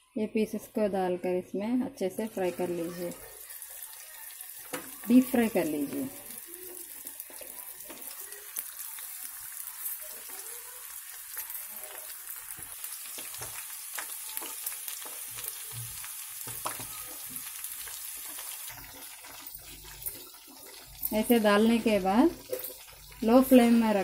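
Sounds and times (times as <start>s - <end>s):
chicken deep-frying in oil: 2.2s - 24.0s.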